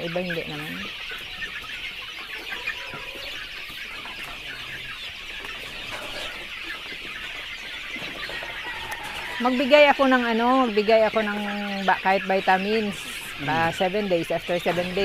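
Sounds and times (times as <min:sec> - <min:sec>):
chicks peeping and clucking: 0:00.0 - 0:15.0.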